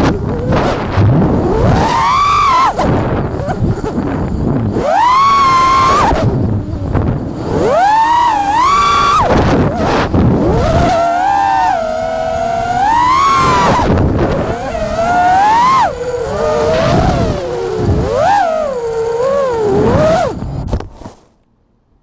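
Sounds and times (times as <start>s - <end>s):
quadcopter motors whining: 0.0s - 20.9s.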